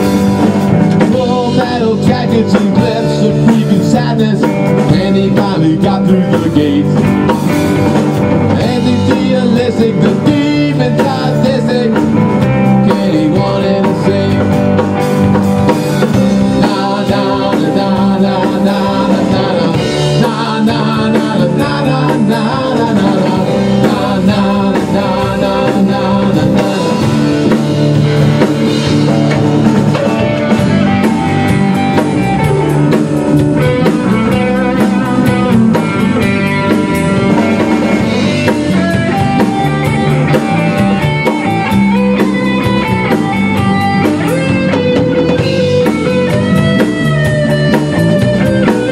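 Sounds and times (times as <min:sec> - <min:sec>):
drum kit: 0:00.0 - 0:48.9
electric guitars: 0:00.0 - 0:48.9.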